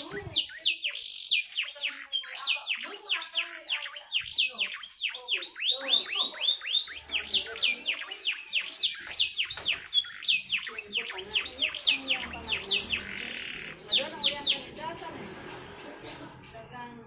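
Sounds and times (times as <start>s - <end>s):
canary singing: 0.0s - 17.0s.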